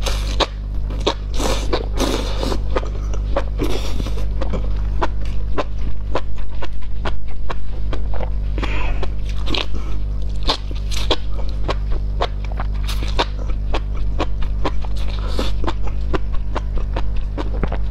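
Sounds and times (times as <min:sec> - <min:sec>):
crisp wet chewing crunches: 0:00.0 - 0:17.9.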